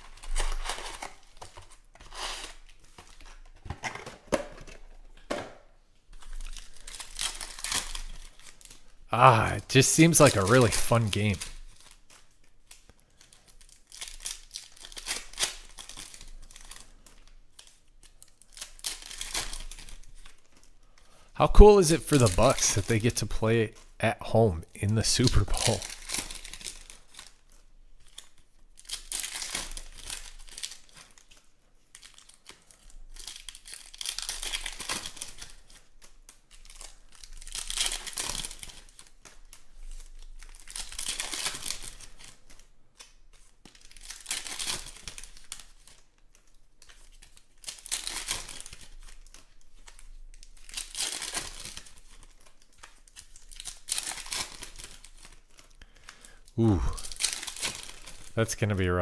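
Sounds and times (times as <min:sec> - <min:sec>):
foil wrappers tearing and crinkling: 0:00.0 - 0:04.1, 0:06.1 - 0:09.0, 0:10.0 - 0:24.0, 0:25.0 - 0:58.4.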